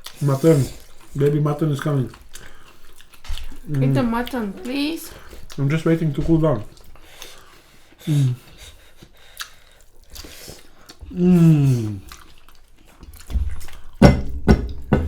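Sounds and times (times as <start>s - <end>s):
chewing food: 0.0s - 14.0s.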